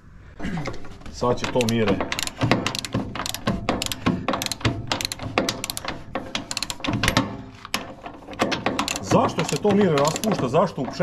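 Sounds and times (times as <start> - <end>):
ratchet wrench clicking: 1.3 - 11.0.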